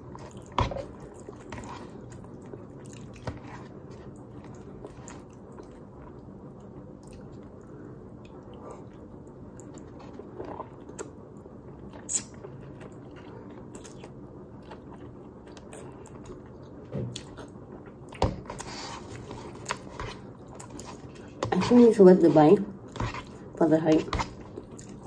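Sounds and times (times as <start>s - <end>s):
person chewing food: 0.0s - 21.6s, 24.1s - 25.0s
low room hum: 0.0s - 25.0s.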